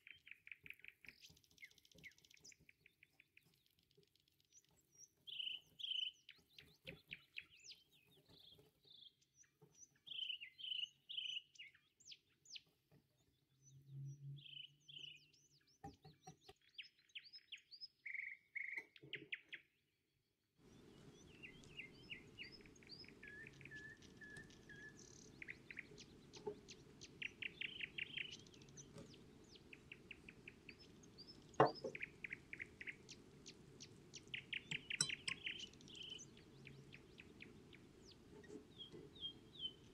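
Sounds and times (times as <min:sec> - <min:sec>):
small birds chirping and trilling: 0:00.0 - 0:19.8, 0:20.6 - 0:39.9.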